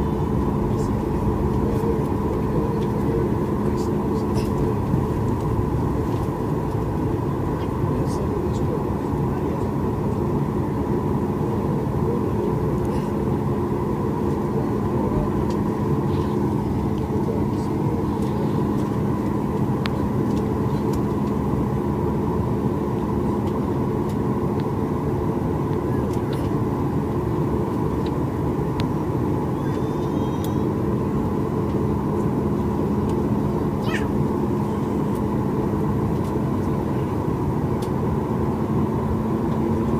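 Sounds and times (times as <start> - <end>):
airplane cabin hum: 0.0 - 39.9.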